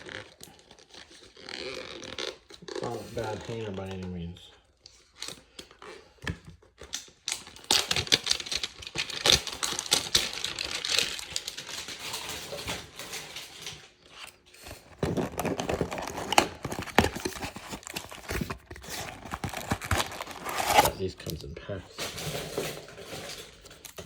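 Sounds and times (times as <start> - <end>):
foil wrappers crinkling and tearing: 0.0 - 24.0.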